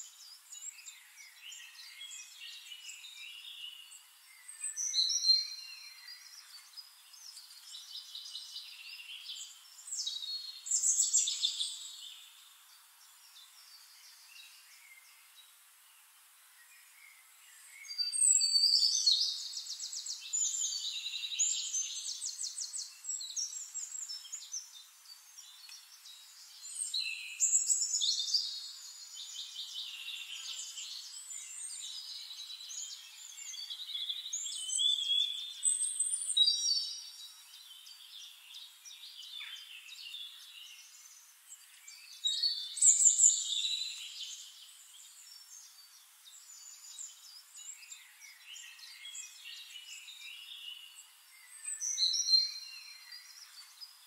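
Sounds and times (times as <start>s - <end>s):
songbirds singing trills: 0.0s - 54.0s.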